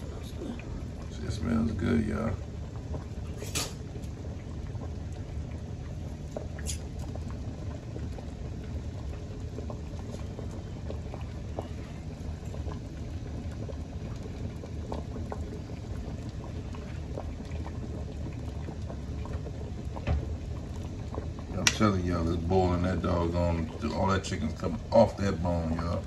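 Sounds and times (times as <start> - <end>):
broth boiling and bubbling: 0.0 - 26.0.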